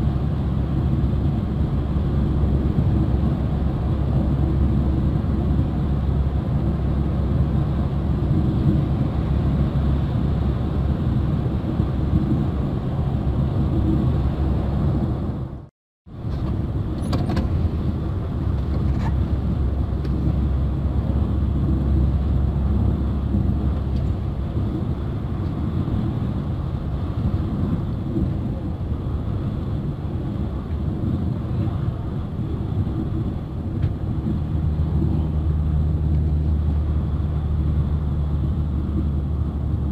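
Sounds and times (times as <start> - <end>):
vehicle engine rumble and road noise: 0.0 - 39.9.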